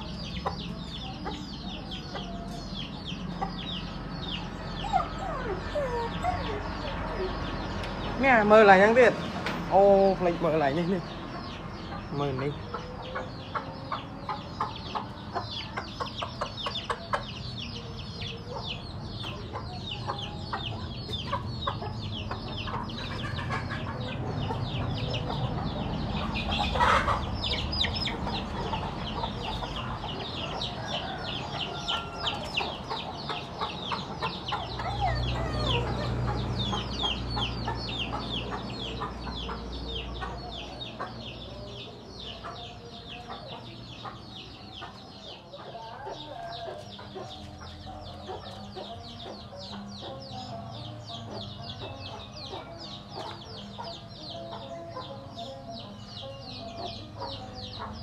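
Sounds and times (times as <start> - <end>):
chickens clucking and chirping: 0.0 - 58.0.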